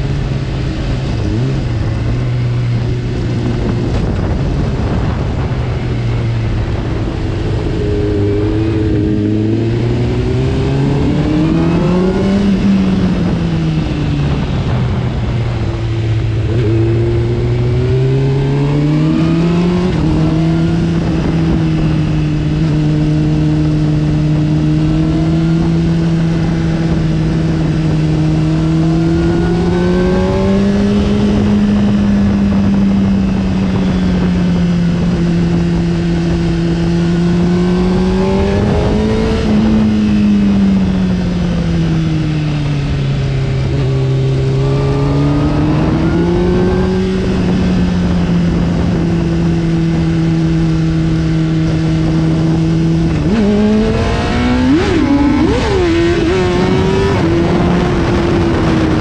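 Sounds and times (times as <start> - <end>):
motorcycle engine revving: 0.0 - 59.0
wind rush over microphone: 0.0 - 59.0.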